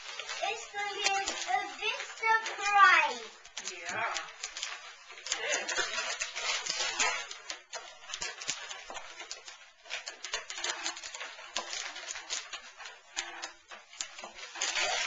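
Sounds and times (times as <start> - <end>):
wrapping paper rustling: 0.0 - 15.0.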